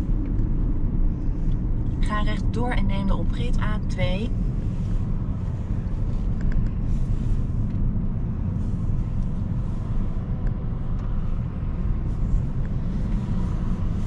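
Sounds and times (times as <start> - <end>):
road and tyre rumble in car cabin: 0.0 - 14.0.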